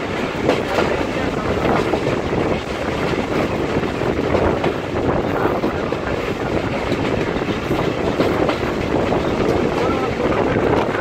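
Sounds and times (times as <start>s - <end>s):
train wheels rumbling on rail: 0.0s - 11.0s
wind rushing: 0.0s - 11.0s.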